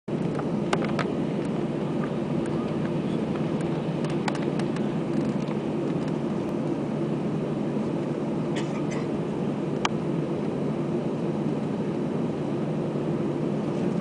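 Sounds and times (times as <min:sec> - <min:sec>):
aircraft engine hum and rumble: 0:00.1 - 0:14.0.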